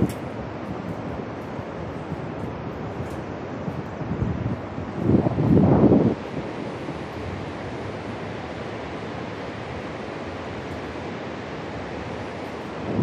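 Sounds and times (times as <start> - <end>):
distant whitewater rushing: 0.0 - 13.0.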